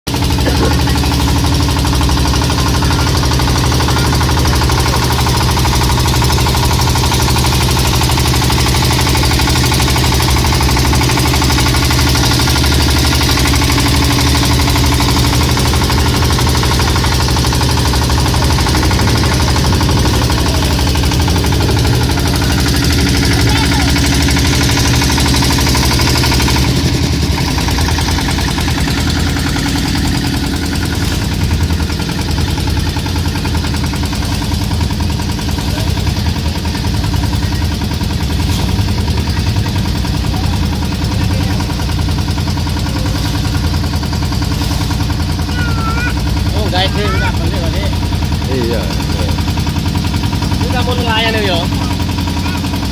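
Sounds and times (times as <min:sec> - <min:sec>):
boat engine running: 0:00.0 - 0:52.9.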